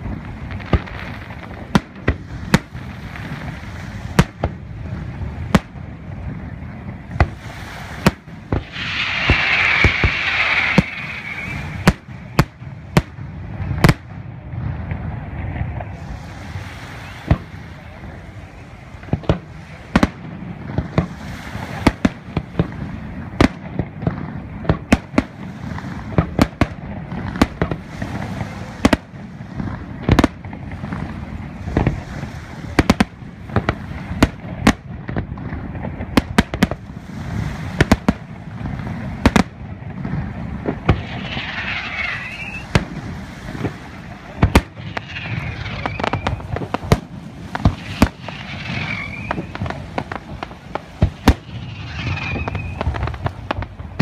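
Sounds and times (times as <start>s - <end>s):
firework bangs: 0.0s - 54.0s.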